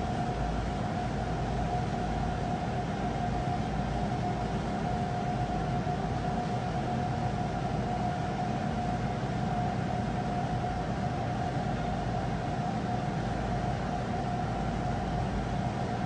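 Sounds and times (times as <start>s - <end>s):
steady high whine: 0.0s - 16.0s.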